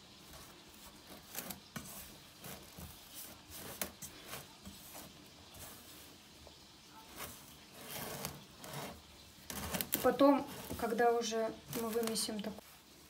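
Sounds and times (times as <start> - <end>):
fingers rubbing dough in a bowl: 0.0 - 12.8.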